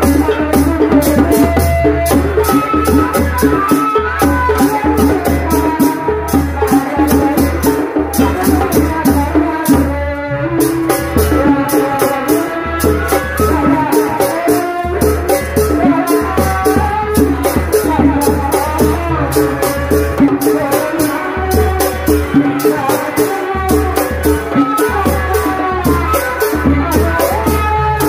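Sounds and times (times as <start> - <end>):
drum and percussion beat: 0.0 - 28.0.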